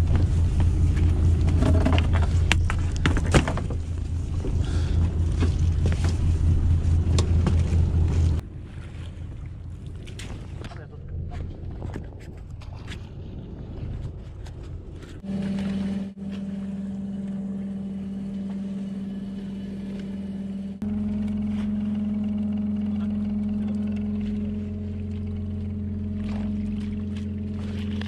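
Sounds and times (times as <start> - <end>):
boat machinery humming: 0.0 - 28.0.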